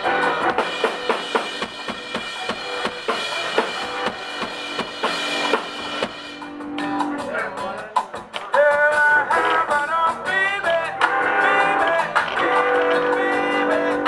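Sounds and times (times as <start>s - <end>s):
drum kit beat: 0.0s - 14.0s.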